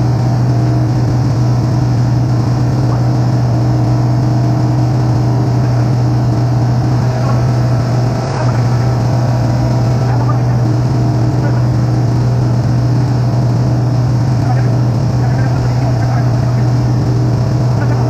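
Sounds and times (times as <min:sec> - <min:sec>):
refrigeration machinery hum: 0:00.0 - 0:18.0.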